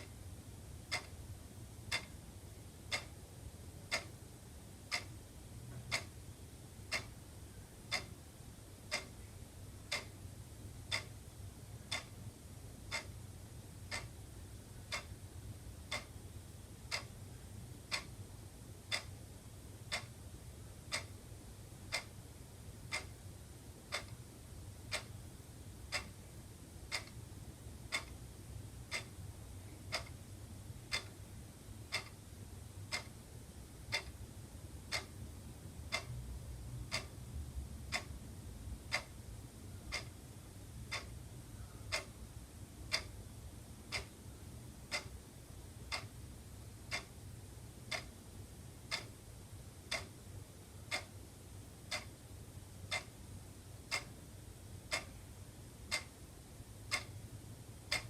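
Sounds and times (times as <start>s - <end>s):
wall clock ticking: 0.0s - 31.2s, 31.8s - 57.2s, 57.8s - 58.0s
faint low hum: 0.0s - 58.0s.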